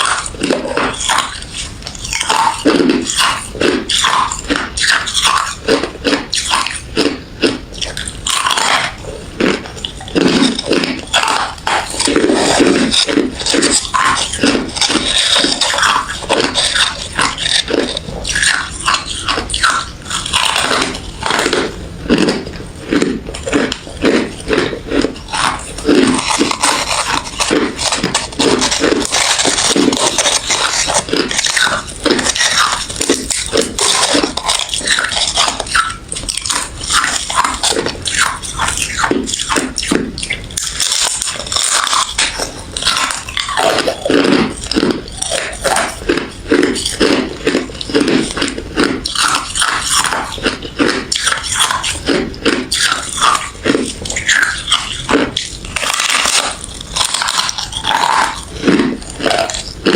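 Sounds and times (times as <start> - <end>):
person chewing ice: 0.0 - 59.9.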